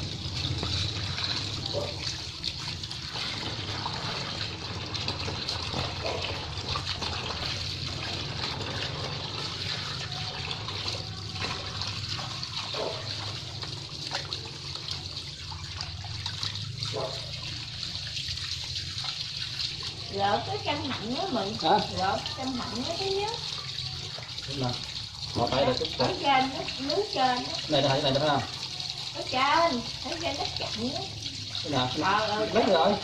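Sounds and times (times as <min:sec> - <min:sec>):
tap water splashing into basin: 0:00.0 - 0:33.0
water sloshing: 0:00.0 - 0:33.0.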